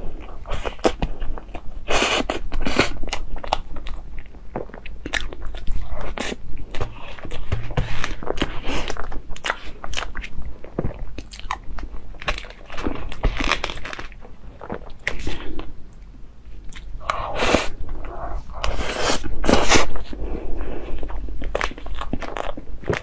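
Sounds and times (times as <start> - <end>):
mouth chewing soft cake: 0.0 - 23.0.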